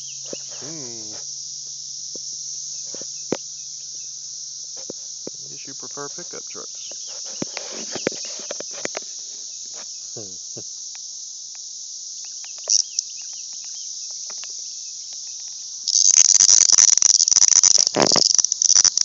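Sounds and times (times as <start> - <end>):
high-pitched insect chorus: 0.0 - 19.0
rasping pulsing cicada buzz: 0.0 - 19.0.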